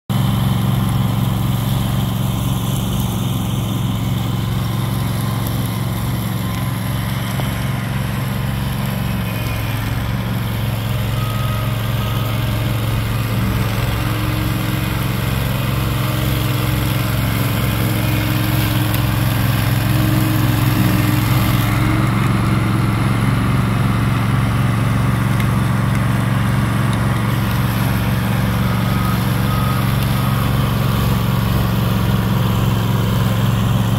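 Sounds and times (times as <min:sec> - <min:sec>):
mulcher engine running: 0:00.1 - 0:33.9.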